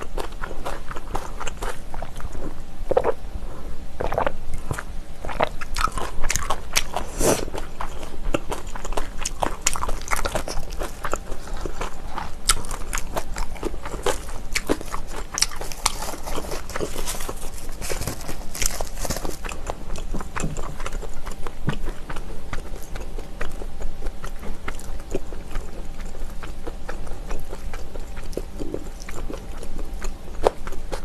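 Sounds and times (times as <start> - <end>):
crunchy chewing: 0.0 - 31.0.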